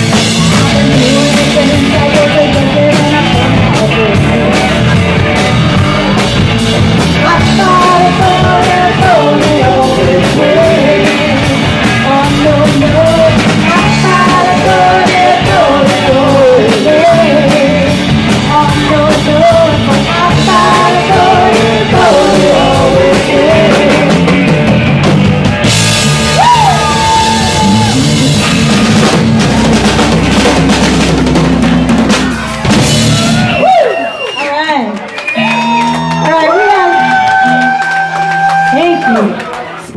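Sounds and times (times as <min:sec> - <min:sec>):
bending lead guitar line: 0:00.0 - 0:34.2, 0:35.3 - 0:39.3
drum kit beat: 0:00.0 - 0:39.4
bass and electric guitars: 0:00.0 - 0:39.9.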